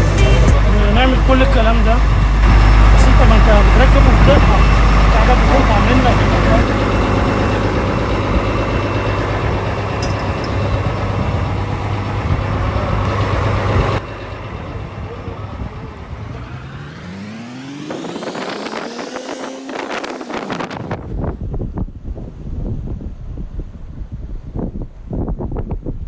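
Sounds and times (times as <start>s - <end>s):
boat engine humming: 0.0s - 21.1s
engine pitch rising: 0.0s - 21.3s.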